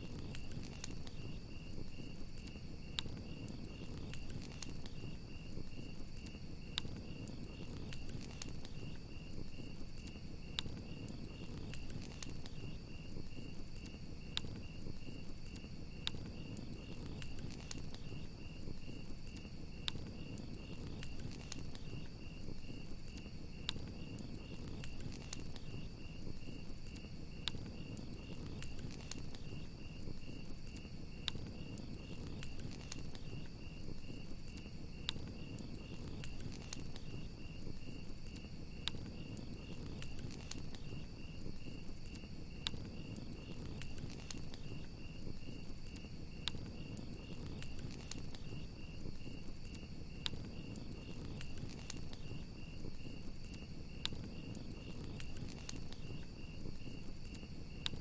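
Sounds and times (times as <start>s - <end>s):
campfire crackling and popping: 0.0s - 58.0s
crickets chirping: 0.0s - 58.0s
low rumble of flames: 0.0s - 58.0s.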